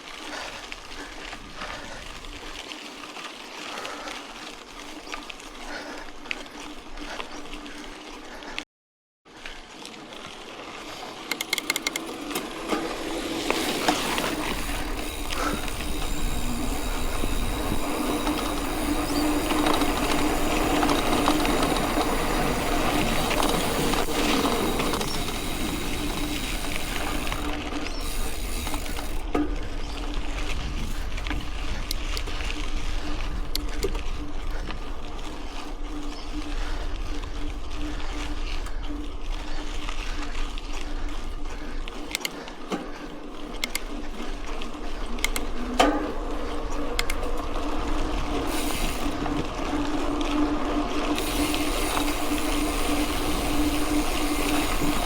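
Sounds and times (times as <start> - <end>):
tyres rolling over gravel: 0.0 - 8.4, 9.3 - 55.0
bike rattling and clicking: 0.0 - 8.6, 9.4 - 55.0.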